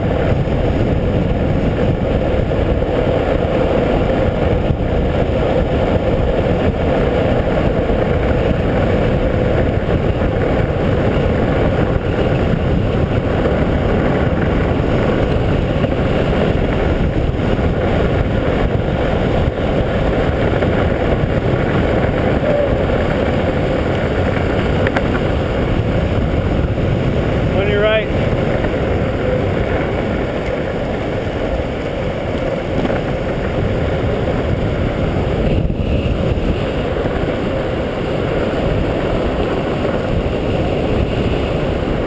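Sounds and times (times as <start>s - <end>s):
wheels rolling on asphalt: 0.0s - 42.0s
wind noise on microphone: 0.0s - 42.0s.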